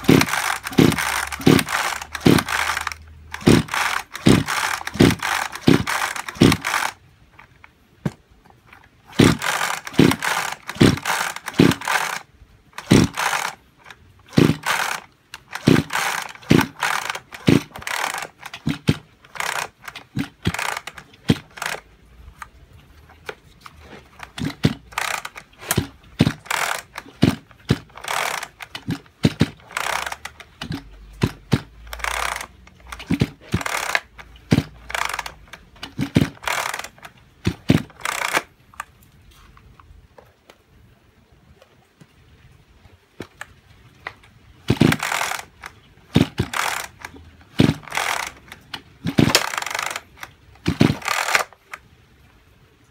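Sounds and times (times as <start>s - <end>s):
chainsaw recoil starter rope whirring: 0.0s - 39.6s, 43.2s - 51.8s.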